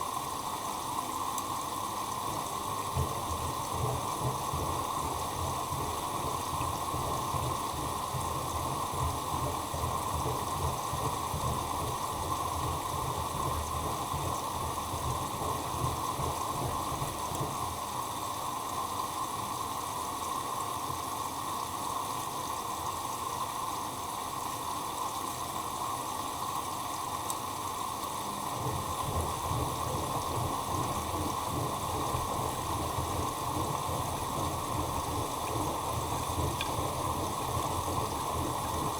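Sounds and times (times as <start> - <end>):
water splashing in washing machine: 0.0 - 38.9.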